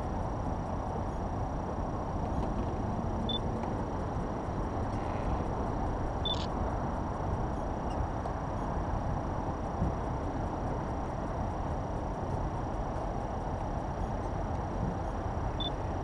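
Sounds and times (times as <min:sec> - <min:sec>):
low outdoor background noise: 0:00.0 - 0:16.0.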